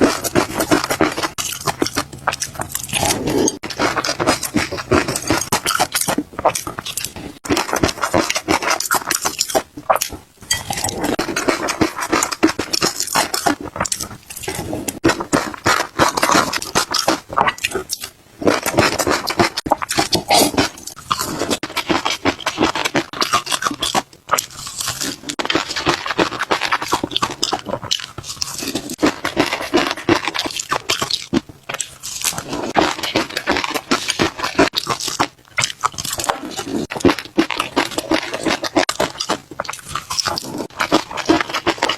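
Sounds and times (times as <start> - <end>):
person chewing and smacking: 0.0 - 41.9.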